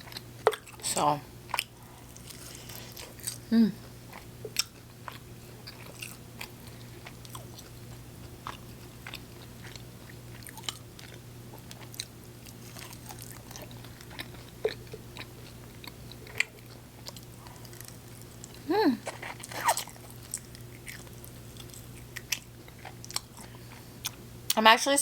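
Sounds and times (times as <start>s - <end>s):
steady low hum: 0.0s - 25.0s
chewing and biting chicken wings: 1.4s - 24.2s.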